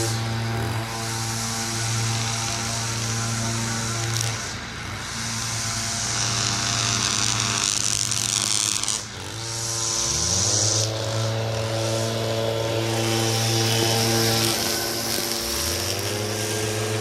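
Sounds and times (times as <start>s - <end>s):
air rushing from nozzle: 0.0s - 17.0s
leaf blower engines droning: 0.0s - 17.0s.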